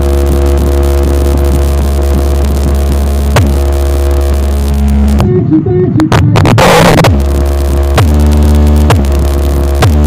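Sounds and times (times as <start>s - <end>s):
deep bass tone from subwoofer: 0.0s - 10.0s.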